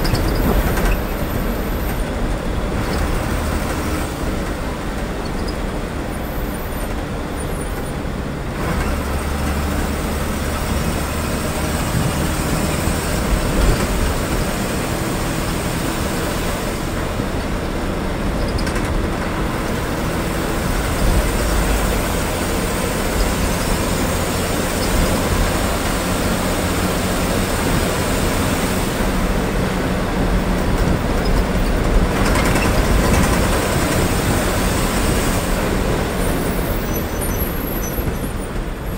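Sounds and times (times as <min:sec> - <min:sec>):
bus diesel engine running: 0:00.0 - 0:38.9
road and cabin noise: 0:00.0 - 0:38.9.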